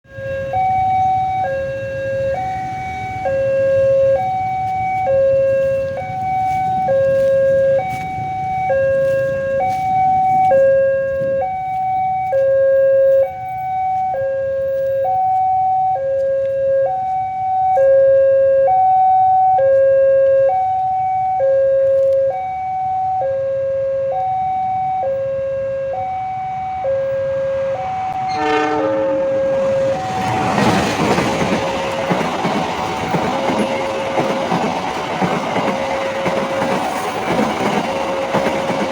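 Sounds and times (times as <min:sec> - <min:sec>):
two-tone level crossing siren: 0:00.0 - 0:38.9.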